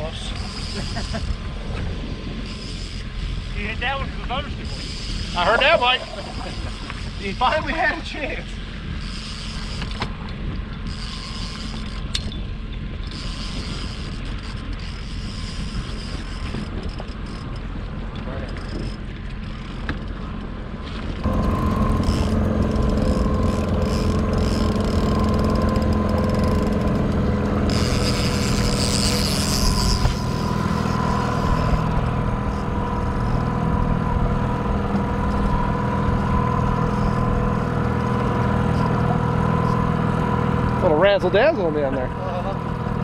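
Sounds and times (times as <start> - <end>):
boat motor running: 0.0 - 43.0.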